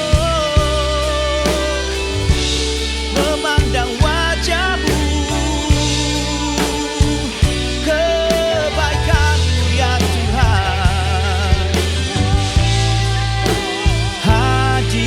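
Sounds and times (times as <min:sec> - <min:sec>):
bass guitar: 0:00.0 - 0:15.0
drums: 0:00.0 - 0:15.0
electric guitar: 0:00.0 - 0:15.0
wavering melodic lead line: 0:00.0 - 0:15.0.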